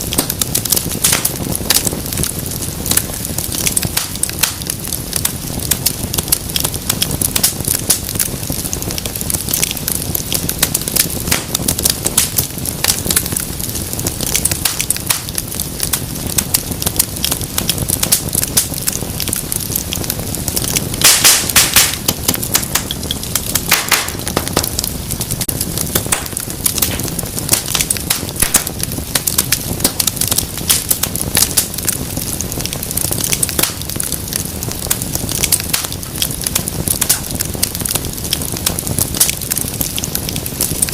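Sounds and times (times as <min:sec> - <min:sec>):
low rumble of flame: 0:00.0 - 0:40.9
wood fire crackling and popping: 0:00.0 - 0:40.9.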